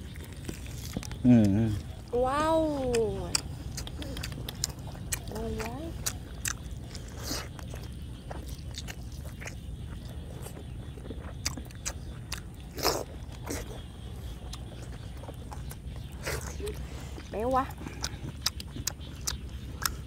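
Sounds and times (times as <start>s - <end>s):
chewing with wet clicks: 0.0s - 20.0s.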